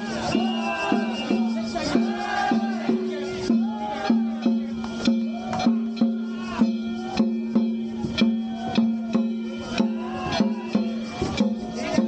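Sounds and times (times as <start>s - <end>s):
drum beats: 0.0s - 12.0s.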